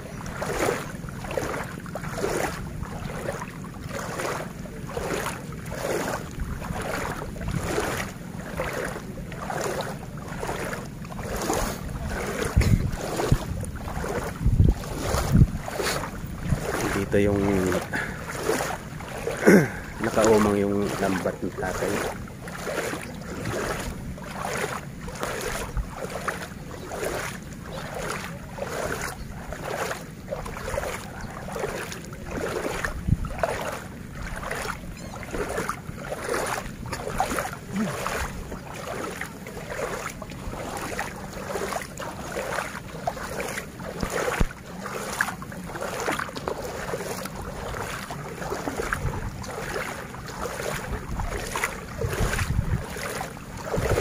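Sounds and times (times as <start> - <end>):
wading through water: 0.0 - 54.0.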